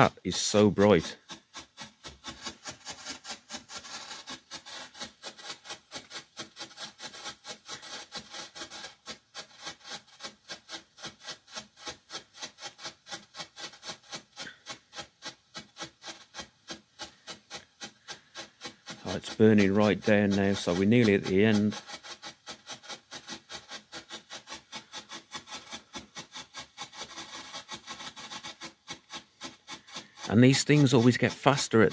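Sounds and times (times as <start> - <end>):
strobe firework crackling pops: 0.0 - 19.4, 20.1 - 31.9.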